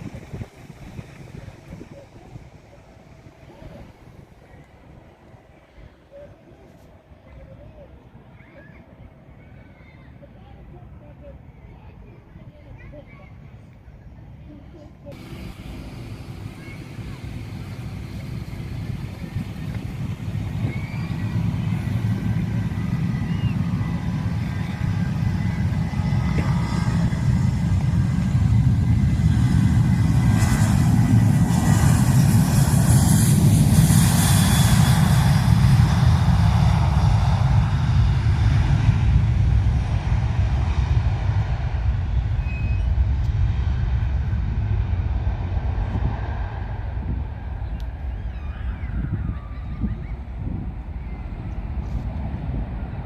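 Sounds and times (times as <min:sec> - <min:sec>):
aircraft engines passing: 0:00.0 - 0:53.0.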